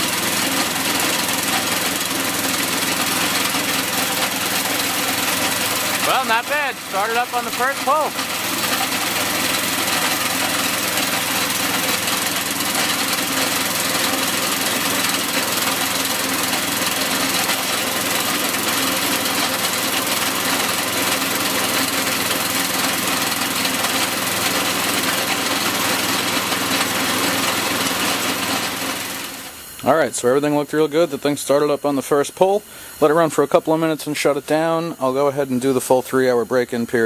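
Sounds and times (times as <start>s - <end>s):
snowblower engine running: 0.0s - 29.8s.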